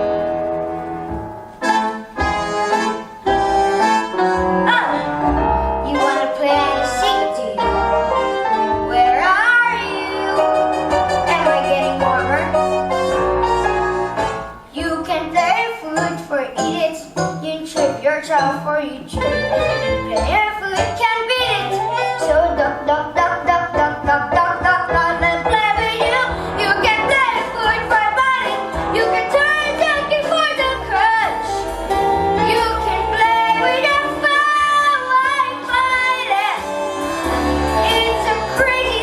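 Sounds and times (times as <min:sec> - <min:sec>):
instrumental accompaniment: 0:00.0 - 0:39.0.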